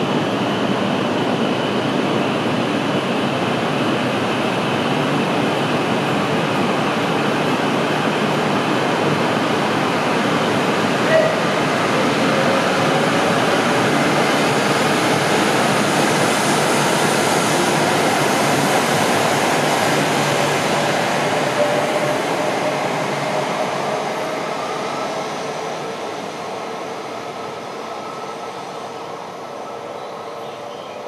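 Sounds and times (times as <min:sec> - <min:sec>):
high speed train passing: 0:00.0 - 0:31.0.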